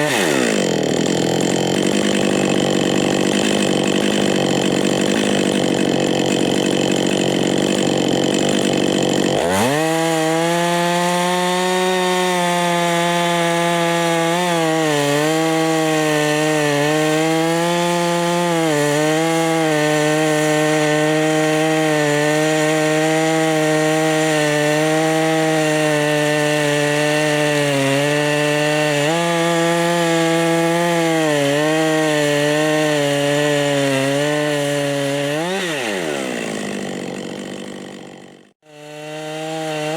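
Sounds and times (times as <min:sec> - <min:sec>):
chainsaw running under load: 0:00.0 - 0:39.9.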